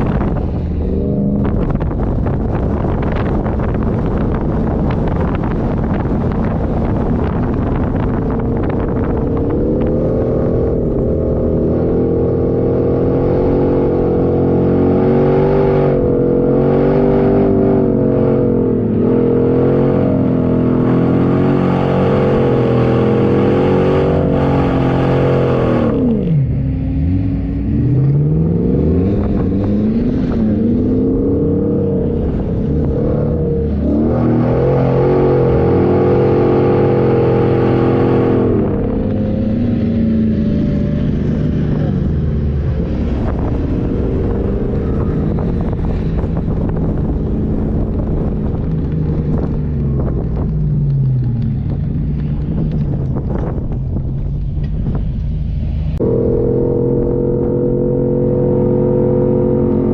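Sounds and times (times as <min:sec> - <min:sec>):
off-road engine revving under load: 0:07.9 - 0:59.9.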